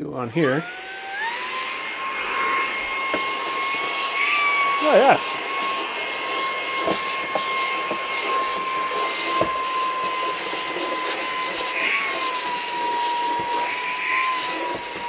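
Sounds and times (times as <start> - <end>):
handheld vacuum running: 0.0 - 15.0.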